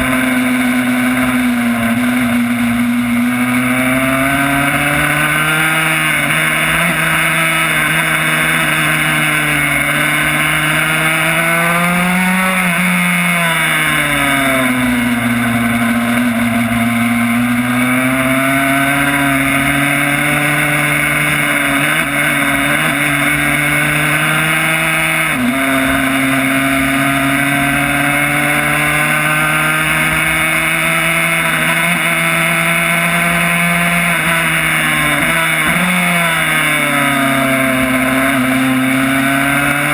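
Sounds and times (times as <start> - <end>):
two-stroke engine running hard: 0.0 - 39.9.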